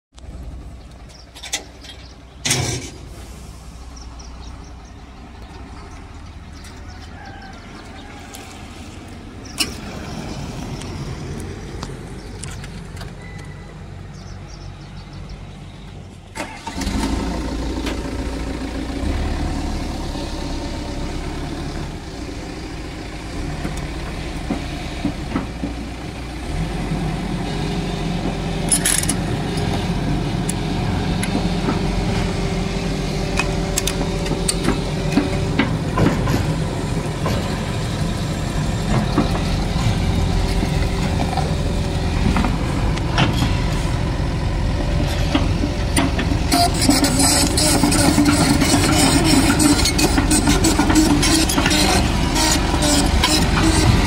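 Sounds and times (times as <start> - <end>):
excavator diesel engine idling: 0.2 - 54.0.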